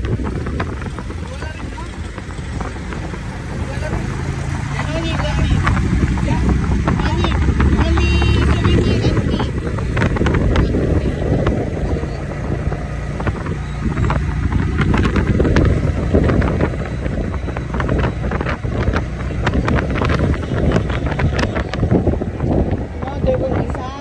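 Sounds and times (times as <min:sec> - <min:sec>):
vehicle rumbling on road: 0:00.0 - 0:24.0
wind buffeting microphone: 0:00.0 - 0:24.0.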